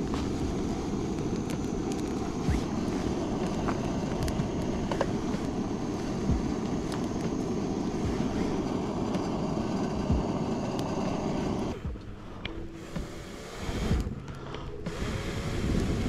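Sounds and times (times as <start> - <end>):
campfire rushing: 0.0 - 16.0
fire crackling and popping: 0.0 - 16.0.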